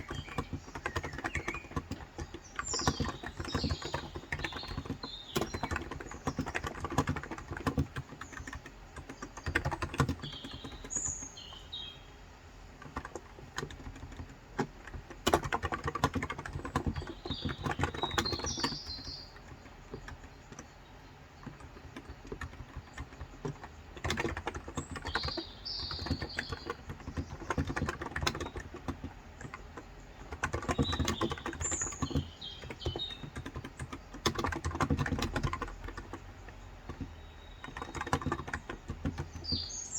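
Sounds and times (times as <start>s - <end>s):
keyboard typing: 0.0s - 11.9s, 12.7s - 39.9s
small birds chirping: 0.0s - 39.9s.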